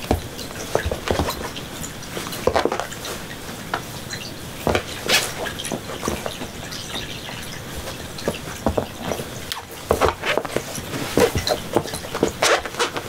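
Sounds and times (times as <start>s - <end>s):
cats play-fighting on a mat: 0.0s - 3.8s, 4.6s - 13.0s.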